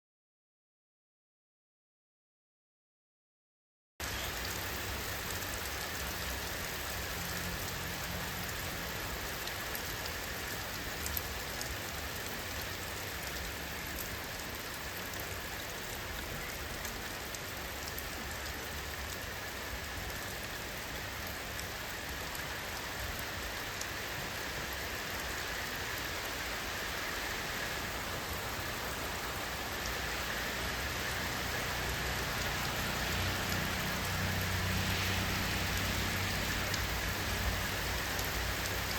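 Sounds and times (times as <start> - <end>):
steady rain falling: 4.0 - 38.9.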